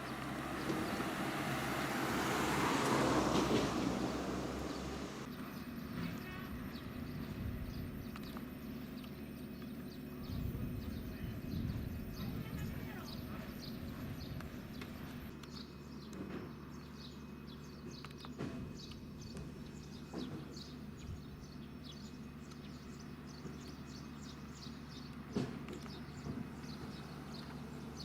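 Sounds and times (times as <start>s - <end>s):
low mechanical hum: 0.0s - 28.0s
small birds chirping: 0.0s - 28.0s.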